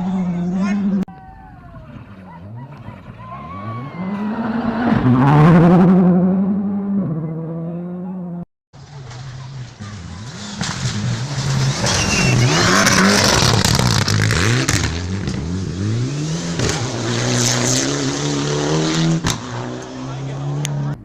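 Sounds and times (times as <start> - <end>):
rally car engine revving: 0.0 - 1.1, 1.9 - 21.0.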